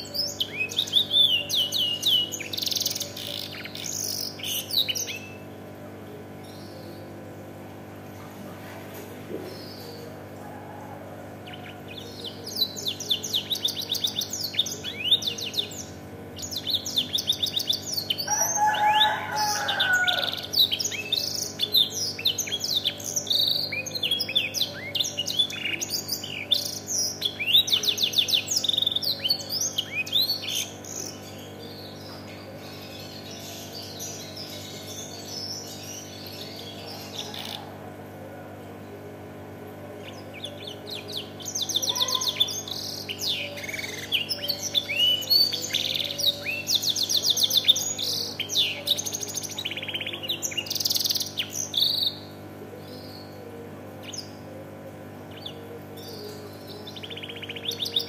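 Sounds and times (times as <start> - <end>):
canary singing trills: 0.0 - 7.6, 9.4 - 58.0.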